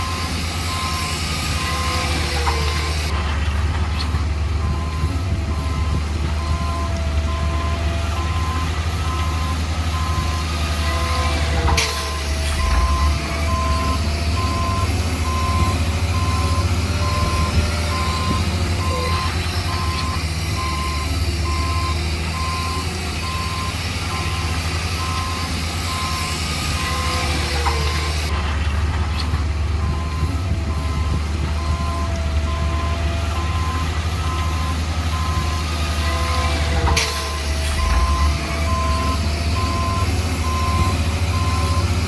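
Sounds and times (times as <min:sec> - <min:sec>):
reversing alarm beeping: 0:00.0 - 0:03.1, 0:04.6 - 0:28.3, 0:29.8 - 0:42.0
diesel engine rumble: 0:00.0 - 0:42.0.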